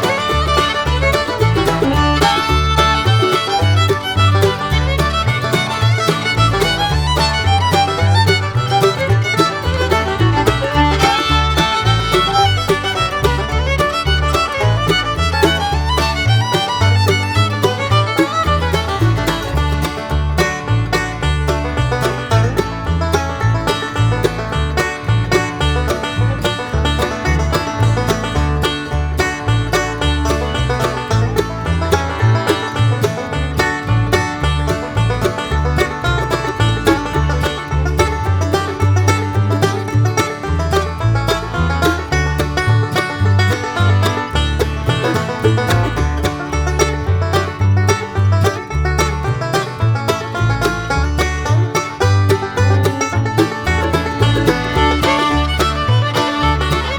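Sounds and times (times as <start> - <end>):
banjo picking: 0.0 - 56.9
bass: 0.0 - 56.9.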